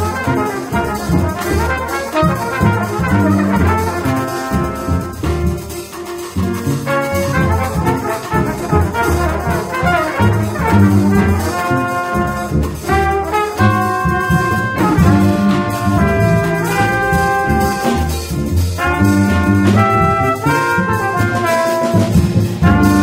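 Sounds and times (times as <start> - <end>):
drums: 0.0 - 23.0
trombone: 0.0 - 23.0
trumpet: 0.0 - 23.0
upright bass: 0.0 - 23.0.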